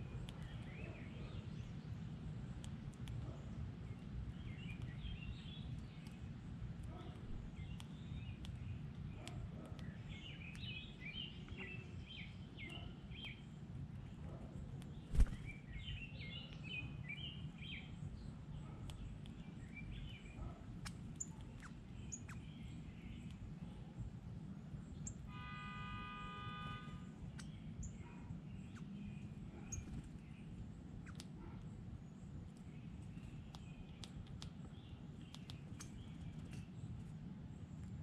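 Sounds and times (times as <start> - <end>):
small birds chirping: 0.0 - 25.3, 26.6 - 38.0.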